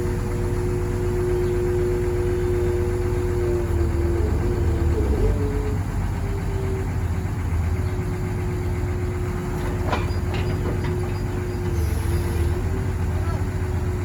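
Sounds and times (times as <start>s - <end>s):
constant whine: 0.0s - 14.0s
excavator engine rumbling: 0.0s - 14.0s.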